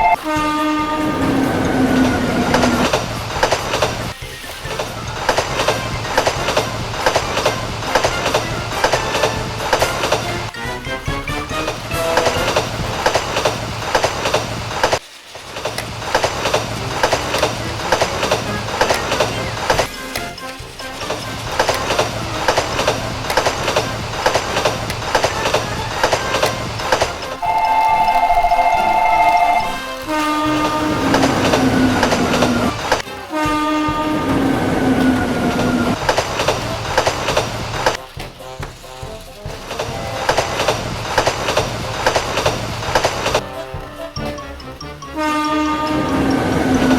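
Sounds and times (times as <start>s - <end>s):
wheels clicking over track joints: 0.0s - 45.1s.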